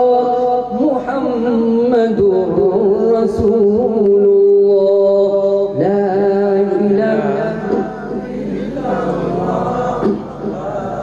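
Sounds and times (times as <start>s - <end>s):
man chanting unaccompanied: 0.0s - 11.0s.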